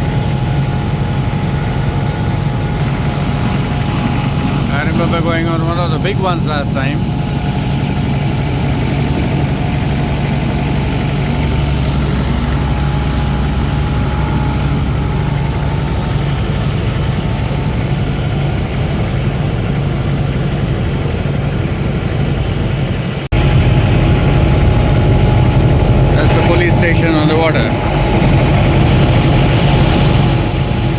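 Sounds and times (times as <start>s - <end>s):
boat engine droning: 0.0s - 30.9s.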